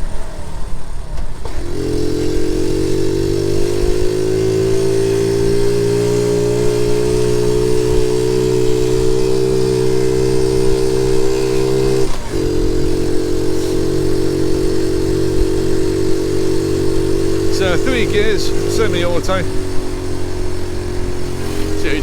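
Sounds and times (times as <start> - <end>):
small motorbike engine running: 0.0 - 22.0.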